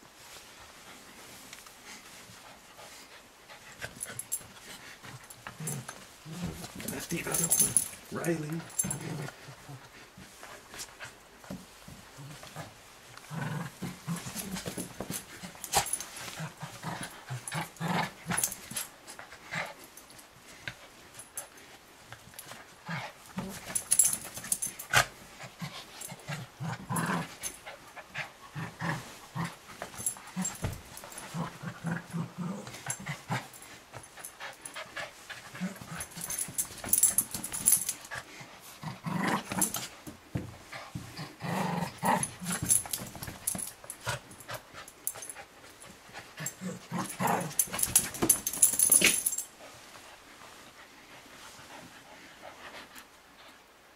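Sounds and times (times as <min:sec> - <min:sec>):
scuffling and rustling: 0:00.0 - 0:53.6
puppy play-growling: 0:01.8 - 0:53.6.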